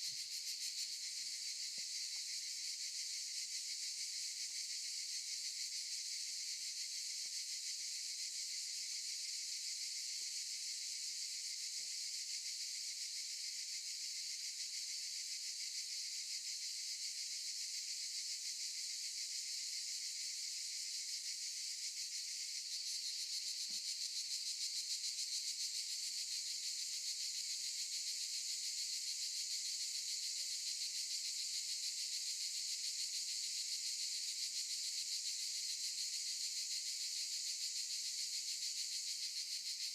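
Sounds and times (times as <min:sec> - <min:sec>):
cicadas buzzing in chorus: 0:00.0 - 0:39.9.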